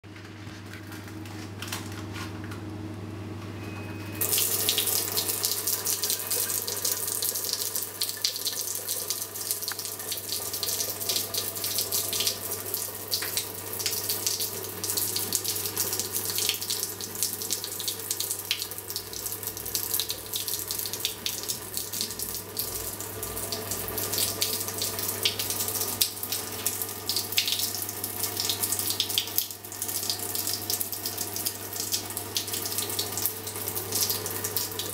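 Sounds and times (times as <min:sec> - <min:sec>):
water splashing into sink: 0:04.2 - 0:34.9.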